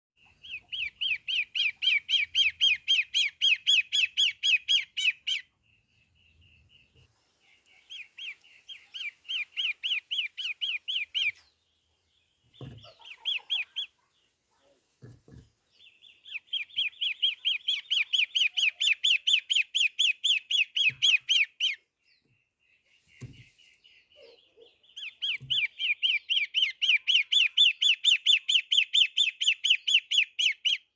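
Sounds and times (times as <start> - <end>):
bird rapid chirping song: 0.2 - 30.9.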